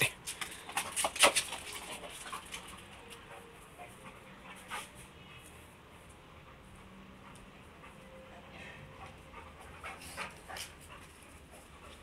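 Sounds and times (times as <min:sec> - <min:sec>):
dog panting: 0:00.7 - 0:12.0.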